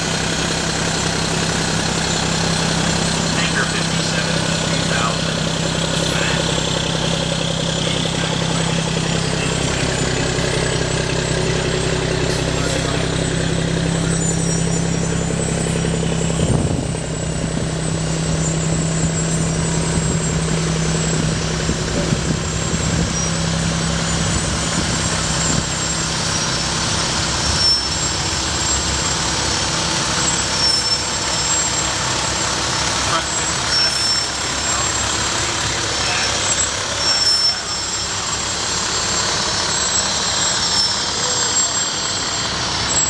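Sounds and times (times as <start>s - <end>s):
fire engine diesel drone: 0.0s - 43.0s
ladder truck engine: 0.0s - 43.0s.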